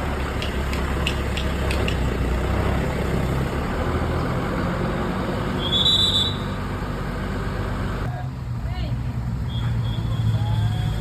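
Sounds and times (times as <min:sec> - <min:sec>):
heavy vehicle engine running: 0:00.0 - 0:11.0
street traffic: 0:00.0 - 0:11.0.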